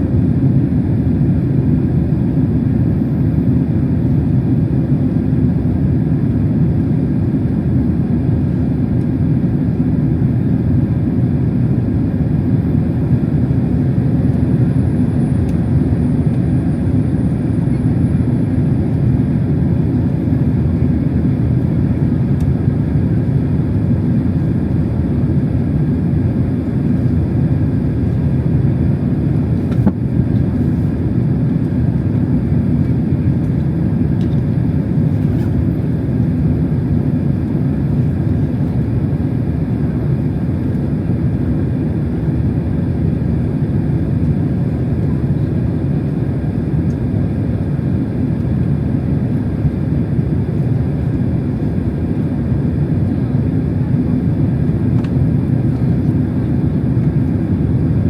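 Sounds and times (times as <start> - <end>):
airliner cabin roar: 0.0 - 58.0.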